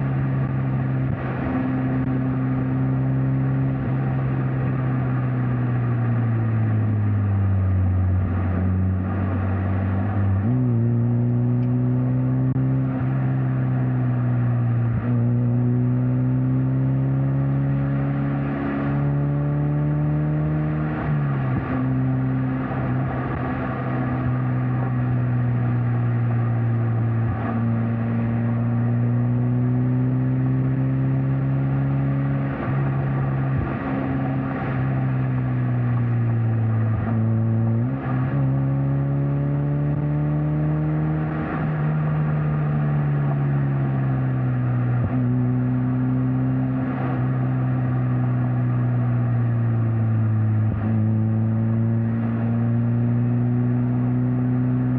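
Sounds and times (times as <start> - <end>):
car engine and exhaust: 0.0 - 54.9
road and wind noise: 0.0 - 54.9.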